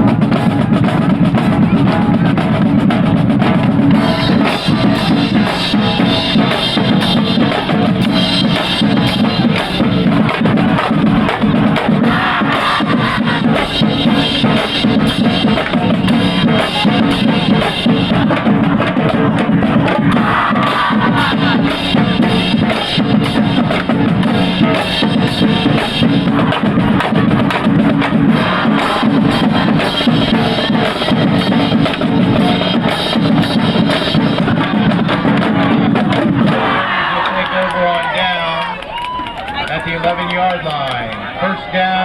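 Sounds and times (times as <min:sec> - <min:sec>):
bass drums and snares beating: 0:00.0 - 0:38.1
marching band playing: 0:00.0 - 0:42.0.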